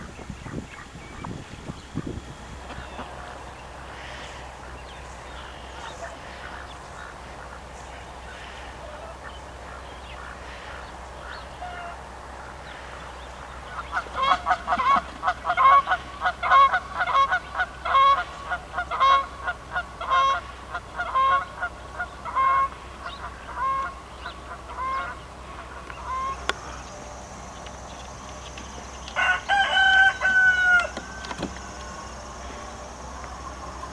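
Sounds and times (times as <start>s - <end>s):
geese honking in flight: 0.0s - 27.5s, 28.6s - 33.9s.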